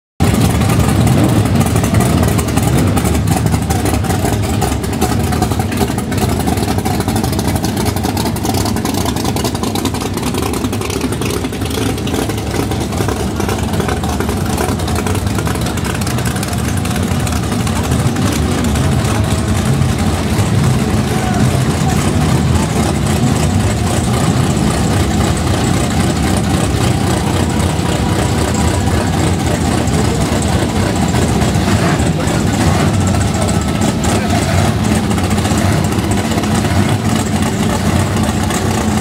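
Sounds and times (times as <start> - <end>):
drag race car engines idling: 0.2 - 39.0.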